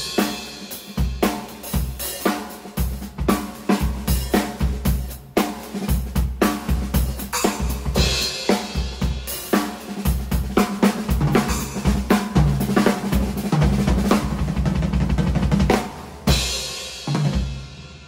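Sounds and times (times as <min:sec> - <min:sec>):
drum kit groove: 0:00.0 - 0:18.0.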